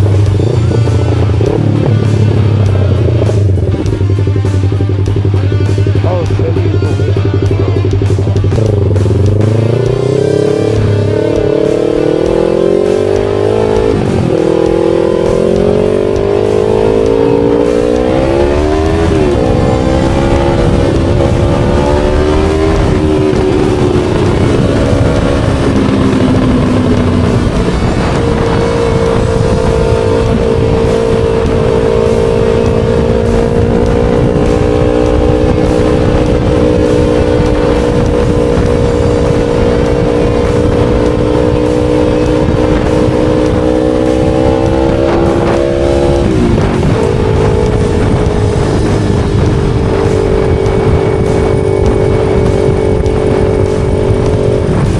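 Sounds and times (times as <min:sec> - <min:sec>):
motorcycle engine revving: 0:00.0 - 0:54.9
wind rush on microphone: 0:07.6 - 0:54.9.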